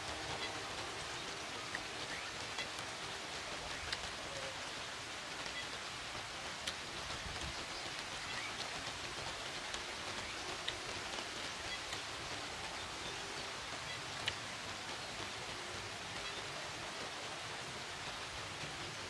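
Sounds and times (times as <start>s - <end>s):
small clicks and ticks: 0.0s - 19.0s
steady rain-like hiss: 0.0s - 19.0s.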